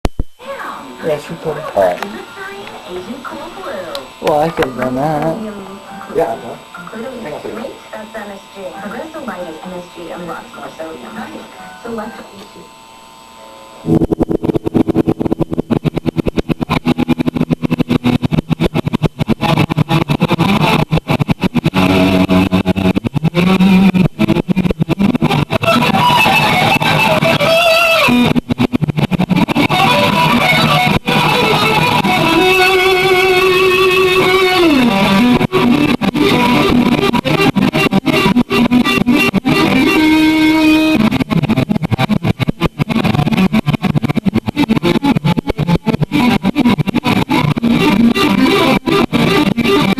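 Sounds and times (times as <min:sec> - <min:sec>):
electric guitar with vibrato: 0:00.1 - 0:49.9.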